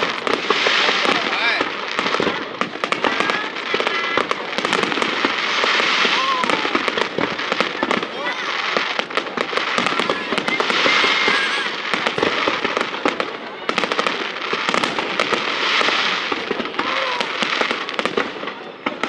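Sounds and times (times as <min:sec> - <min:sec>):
fireworks bangs and crackling: 0:00.0 - 0:19.0
fireworks rumble: 0:00.0 - 0:19.0.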